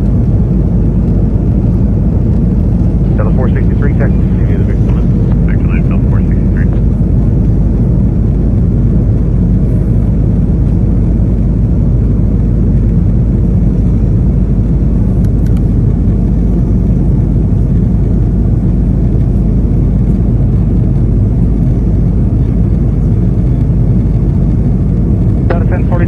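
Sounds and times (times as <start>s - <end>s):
airplane engine rumble in cabin: 0.0s - 26.0s.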